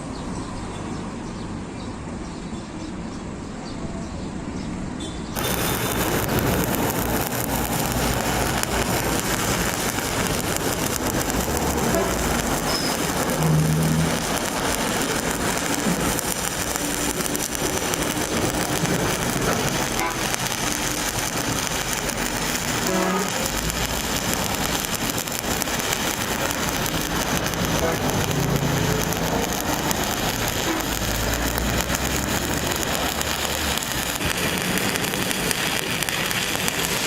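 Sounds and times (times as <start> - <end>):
welding arc crackling: 5.3 - 37.0.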